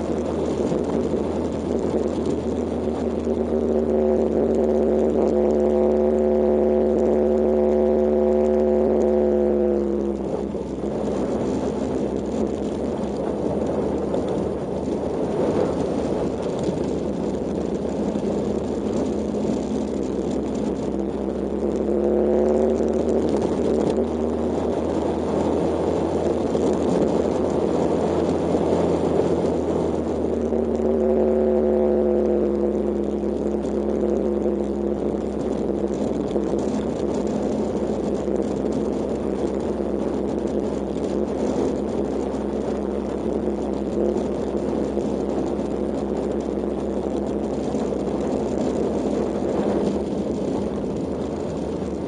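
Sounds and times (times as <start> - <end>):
motorcycle engine running: 0.0 - 52.0
rough rumbling noise: 0.0 - 52.0.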